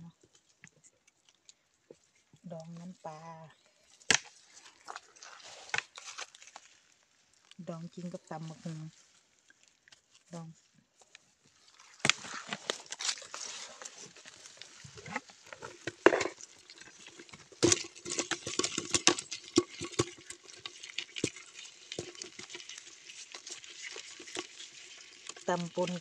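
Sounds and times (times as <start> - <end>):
crabs and fish clattering in bucket: 0.0 - 26.0.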